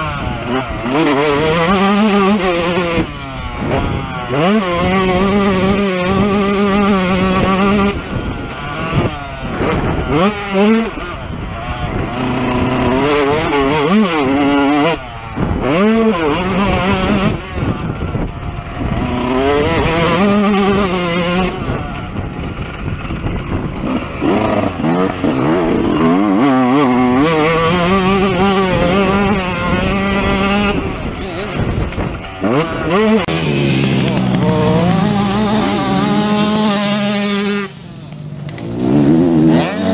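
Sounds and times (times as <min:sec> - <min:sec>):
two-stroke motorcycle engine racing: 0:00.0 - 0:39.9.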